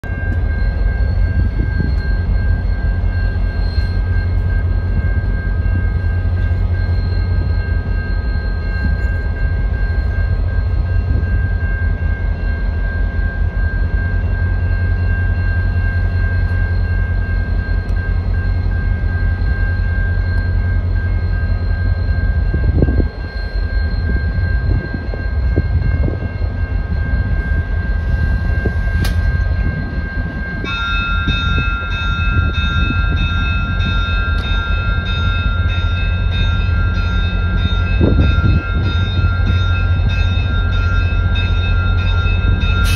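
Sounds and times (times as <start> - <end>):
diesel locomotive engine rumbling: 0.0 - 42.9
steady high whine: 0.0 - 42.9.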